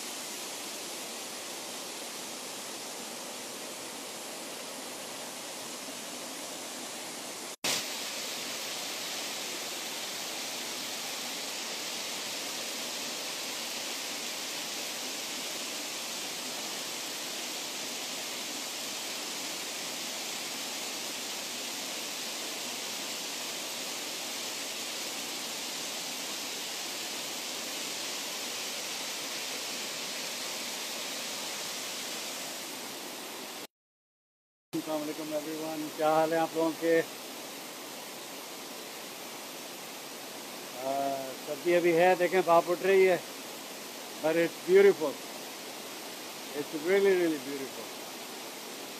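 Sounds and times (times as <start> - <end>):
rushing water: 0.0 - 33.7, 34.8 - 48.9.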